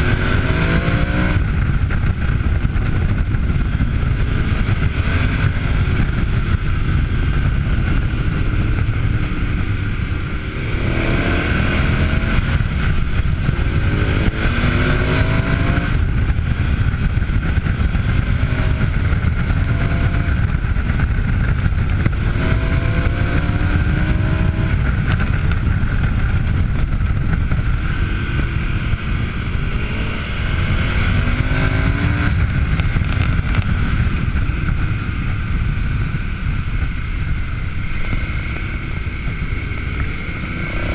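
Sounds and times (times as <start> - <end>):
motorcycle engine accelerating: 0.0 - 40.9
wind rumble on microphone: 0.0 - 40.9.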